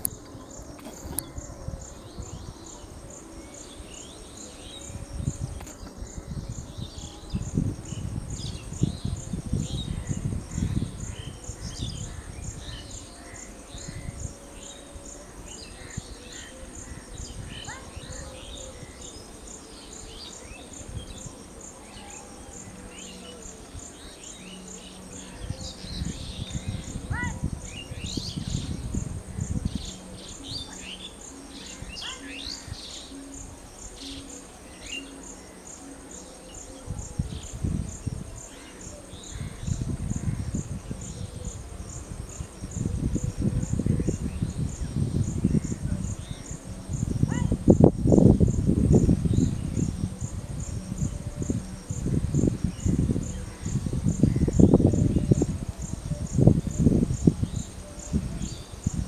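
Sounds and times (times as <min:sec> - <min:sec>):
pulsing insect call: 0:00.0 - 0:59.0.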